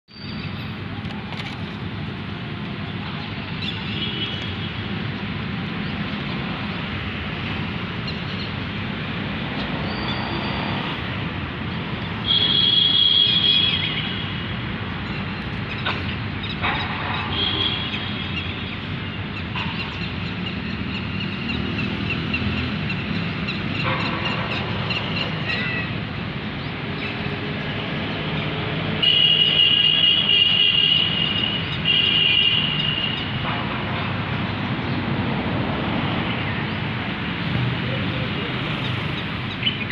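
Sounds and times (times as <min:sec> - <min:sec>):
outdoor background noise: 0:00.1 - 0:39.9.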